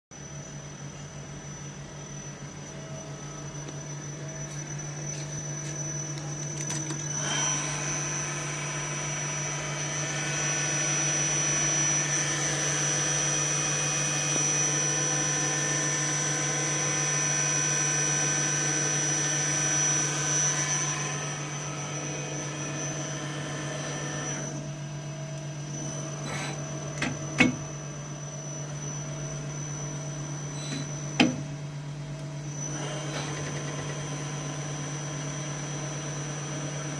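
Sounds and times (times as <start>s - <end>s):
high even machine whine: 0.1s - 36.9s
lathe humming: 1.4s - 31.5s.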